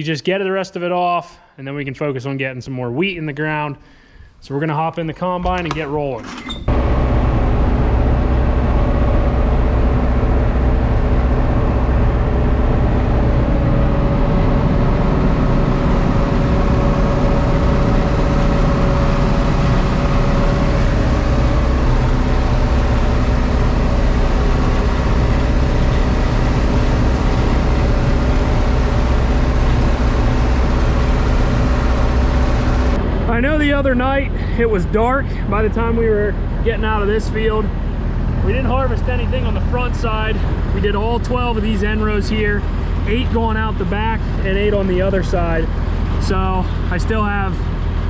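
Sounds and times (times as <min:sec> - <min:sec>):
combine harvester engine drone: 0:06.7 - 0:48.0.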